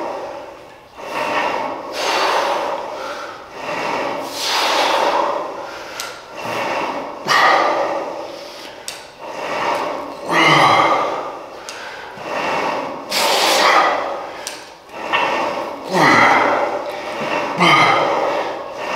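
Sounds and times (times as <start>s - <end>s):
man breathing hard: 0.0s - 18.9s.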